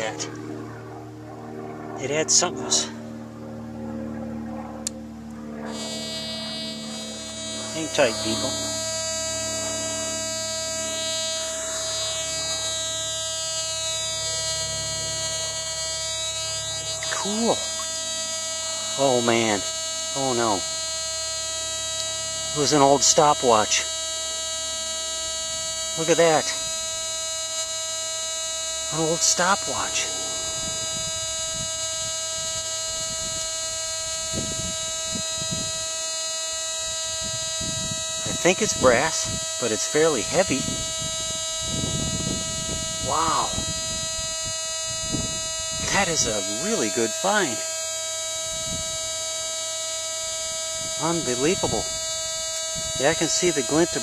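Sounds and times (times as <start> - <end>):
metal detector electronic buzz: 0.0 - 1.0, 4.8 - 54.0.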